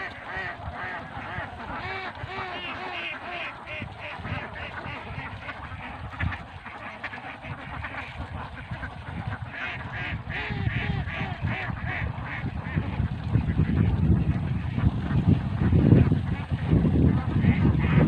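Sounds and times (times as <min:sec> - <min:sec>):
ducks quacking: 0:00.0 - 0:18.0.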